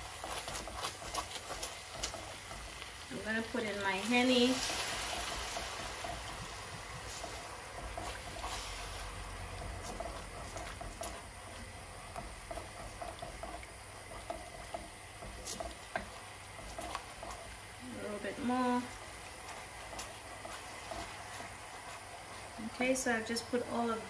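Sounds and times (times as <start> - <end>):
sauce bubbling: 0.0 - 24.0
sauce sizzling and popping: 0.0 - 24.0.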